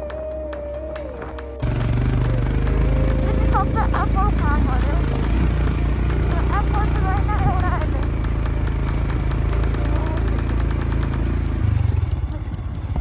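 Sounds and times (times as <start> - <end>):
motorcycle engine hum: 0.0 - 13.0.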